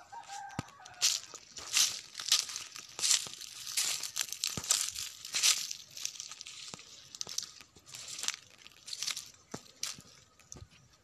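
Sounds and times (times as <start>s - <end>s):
dry grass rustling and crunching: 0.0s - 11.0s
twigs snapping: 0.4s - 10.6s.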